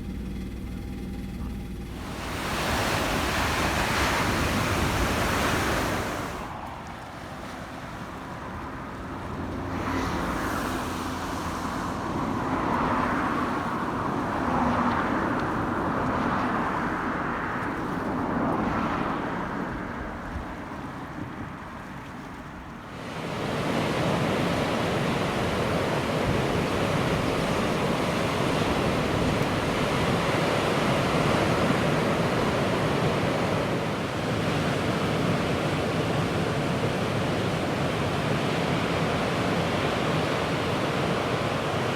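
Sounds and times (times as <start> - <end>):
ocean surf breaking: 1.8 - 41.9.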